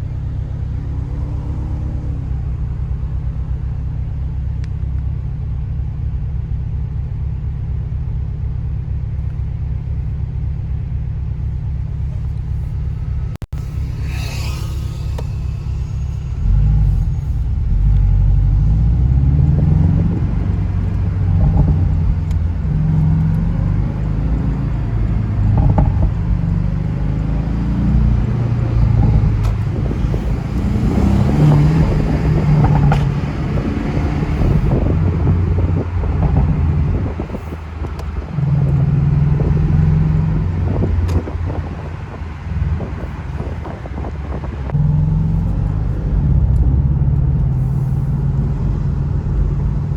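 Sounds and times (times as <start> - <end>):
car engine droning while driving: 0.0 - 49.9.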